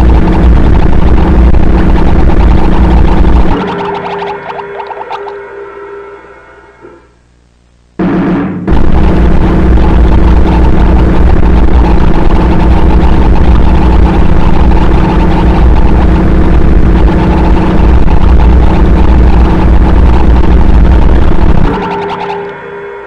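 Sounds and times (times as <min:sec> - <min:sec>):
heavy low rumble: 0:00.0 - 0:22.0
distorted noise music: 0:00.0 - 0:23.0
droning tones: 0:00.0 - 0:23.0.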